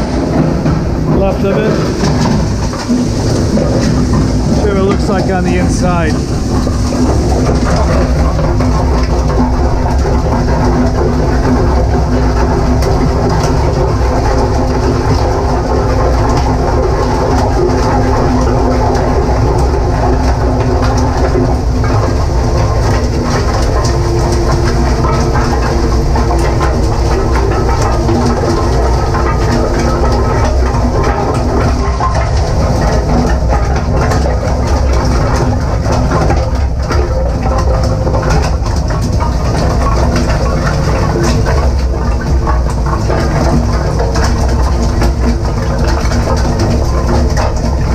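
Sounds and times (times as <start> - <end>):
motor hum: 0.0 - 47.9.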